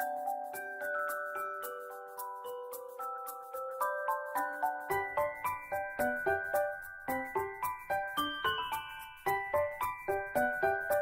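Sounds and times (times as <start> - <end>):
bouncy bell-like tune: 0.0 - 11.0.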